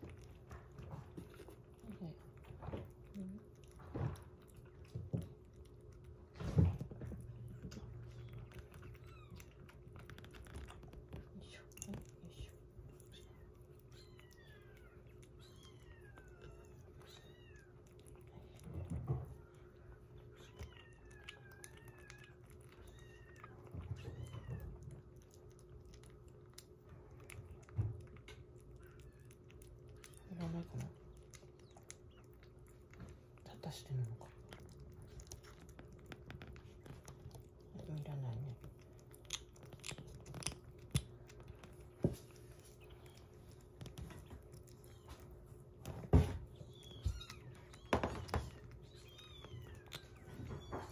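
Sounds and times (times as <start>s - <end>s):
kitten eating wet food: 0.0s - 50.9s.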